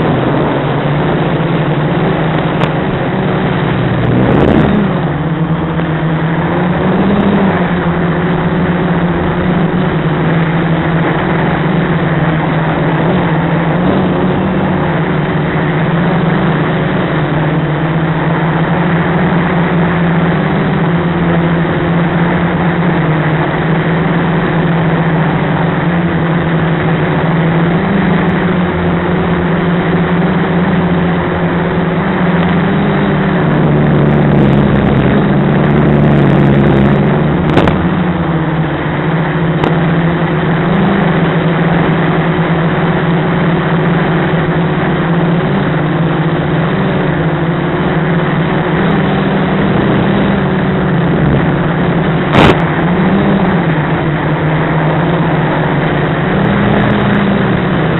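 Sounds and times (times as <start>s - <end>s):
quadcopter propellers droning: 0.0s - 57.9s.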